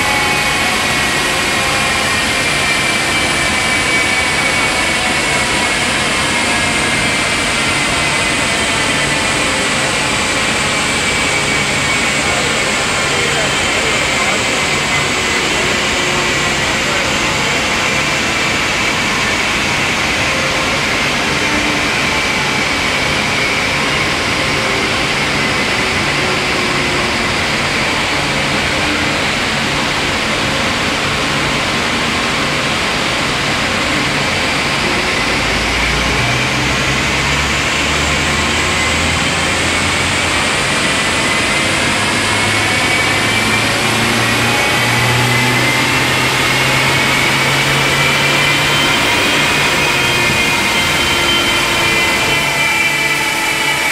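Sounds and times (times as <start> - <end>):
engine and rollers rushing: 0.0 - 53.9.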